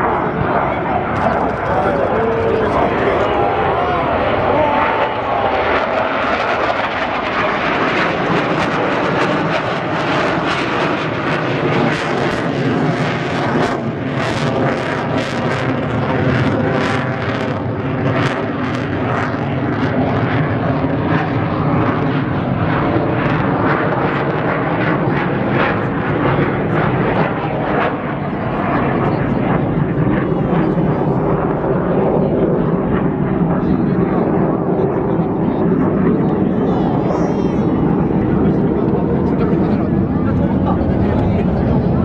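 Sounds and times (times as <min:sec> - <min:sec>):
jet engines overhead: 0:00.0 - 0:42.0.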